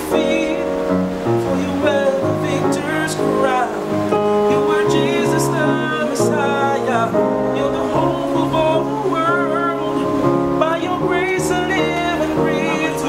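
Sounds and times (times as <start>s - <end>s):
men singing in close harmony: 0.0s - 13.0s.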